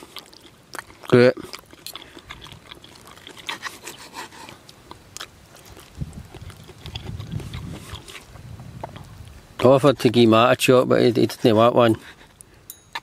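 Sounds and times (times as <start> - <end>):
close-up chewing: 0.0 - 10.3, 11.0 - 13.0.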